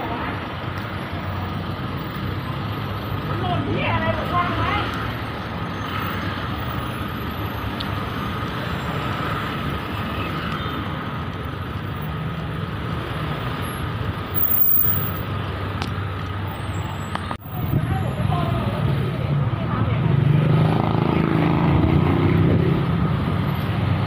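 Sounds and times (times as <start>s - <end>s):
car and motorcycle engines: 0.0s - 24.0s.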